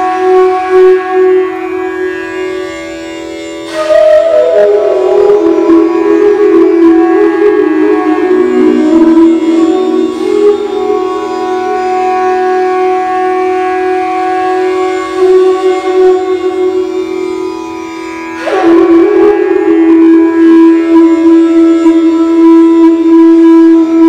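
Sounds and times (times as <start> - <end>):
bamboo flute in reverberant tank: 0.0 - 24.0.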